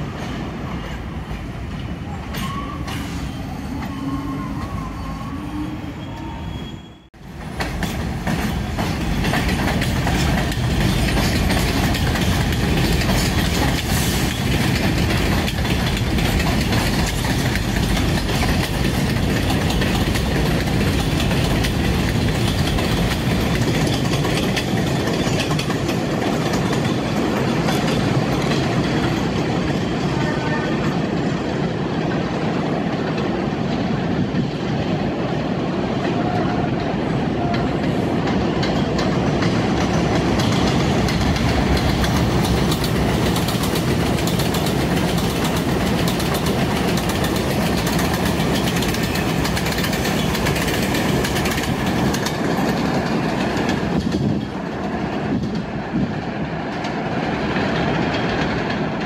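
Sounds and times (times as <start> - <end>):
subway train rumbling on track: 0.0 - 59.0.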